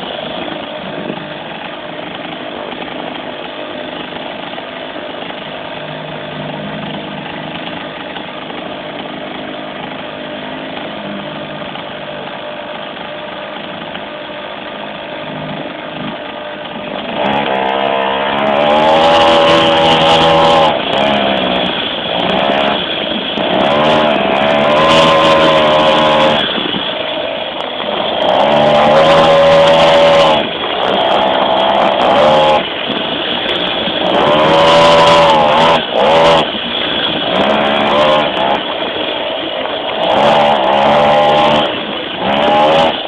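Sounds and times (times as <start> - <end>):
small two-stroke engine revving: 0.0 - 43.0.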